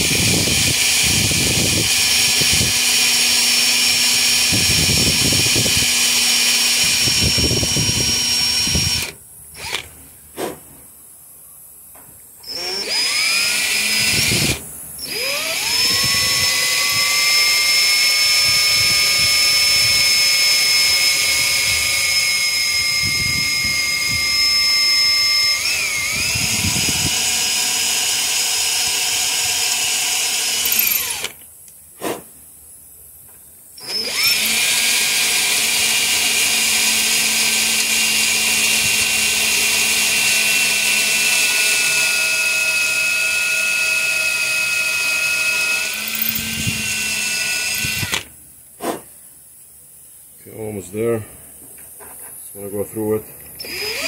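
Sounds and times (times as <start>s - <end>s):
cordless drill whining: 0.0s - 10.0s, 12.4s - 31.4s, 33.8s - 48.4s, 53.6s - 54.0s.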